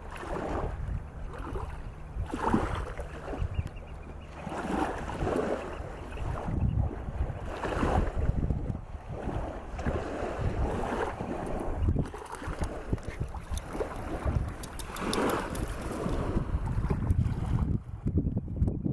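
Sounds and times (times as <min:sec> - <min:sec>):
small waves lapping on sand: 0:00.0 - 0:17.8
wind rumbling on microphone: 0:00.0 - 0:18.9.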